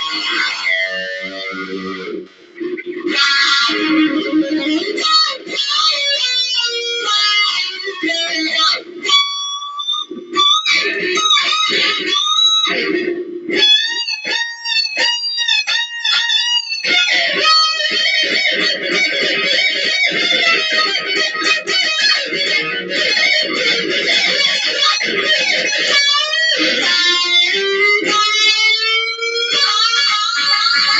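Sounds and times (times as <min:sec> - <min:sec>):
electric guitar solo: 0:00.0 - 0:30.9.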